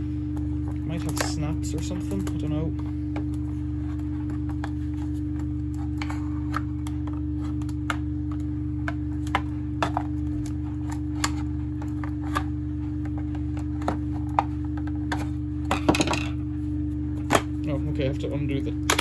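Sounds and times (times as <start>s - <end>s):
tumble dryer humming: 0.0s - 19.0s.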